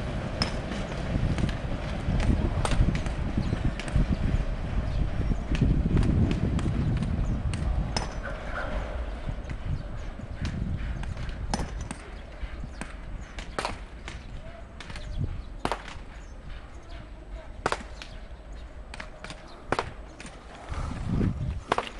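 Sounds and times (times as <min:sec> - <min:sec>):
low train rumble: 0:00.0 - 0:21.9
wheels clacking over rail joints: 0:00.0 - 0:21.9.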